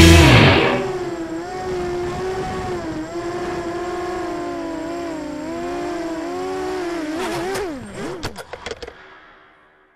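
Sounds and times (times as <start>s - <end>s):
quadcopter motors whining: 0.0s - 9.0s.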